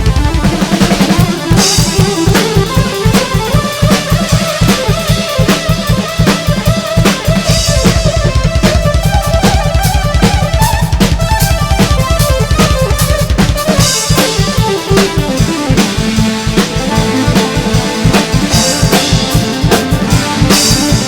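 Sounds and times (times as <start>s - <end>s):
drum kit playing fast rhythm: 0.0s - 21.0s
held keyboard melody: 0.0s - 21.0s.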